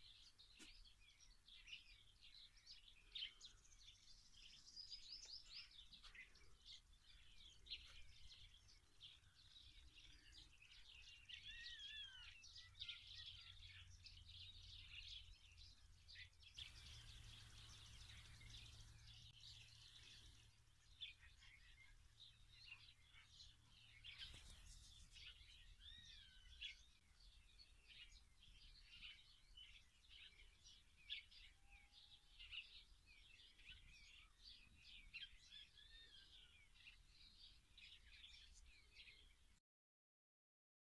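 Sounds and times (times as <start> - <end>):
small birds chirping: 0.0 - 39.6.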